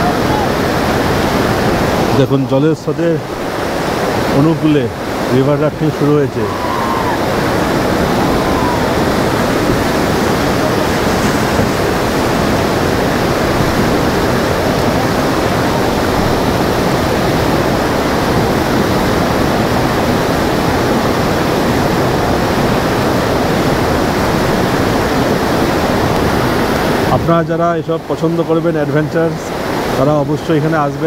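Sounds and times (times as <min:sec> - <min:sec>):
whitewater rapids rushing: 0:00.0 - 0:31.0.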